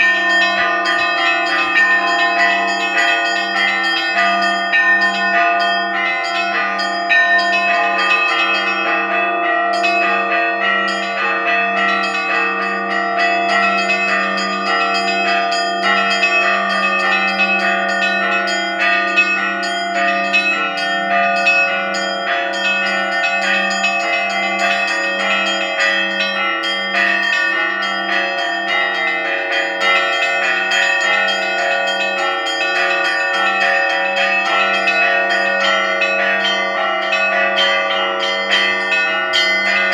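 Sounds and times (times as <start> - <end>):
low bell at steady beat: 0.0 - 39.9
small church bells struck rapidly: 0.0 - 39.9.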